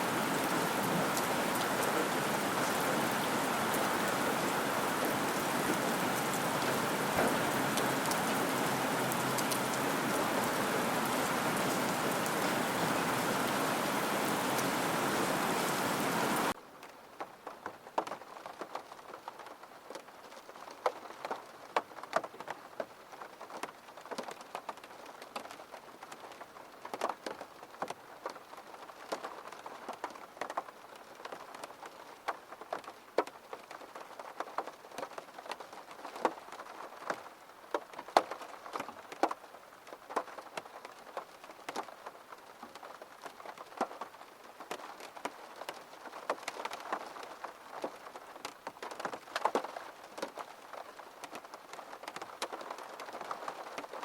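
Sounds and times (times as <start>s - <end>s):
heavy rain: 0.0s - 16.6s, 18.3s - 54.0s
raindrops tapping close by: 0.0s - 54.0s.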